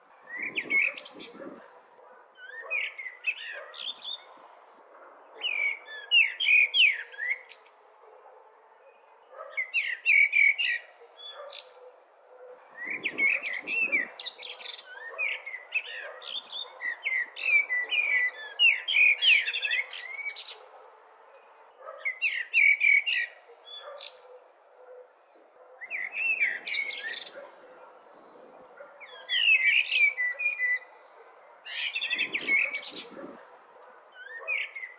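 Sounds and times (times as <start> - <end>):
blackbird singing: 0.3 - 4.3, 5.4 - 7.8, 8.8 - 12.0, 12.6 - 34.9.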